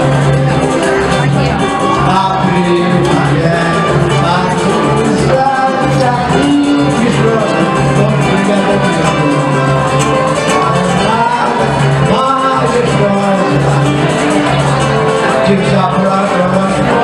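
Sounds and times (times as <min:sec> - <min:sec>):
acoustic samba band playing: 0:00.0 - 0:17.0.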